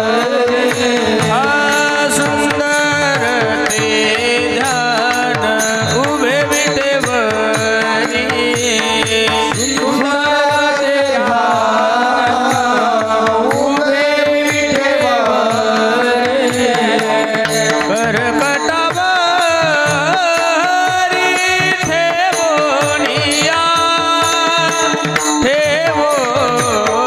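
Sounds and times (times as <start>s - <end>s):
person singing ornamented notes: 0.0s - 27.0s.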